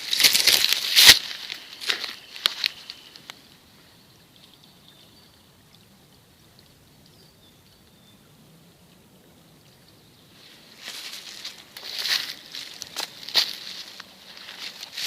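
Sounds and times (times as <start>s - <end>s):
brook trickling: 0.0s - 15.0s.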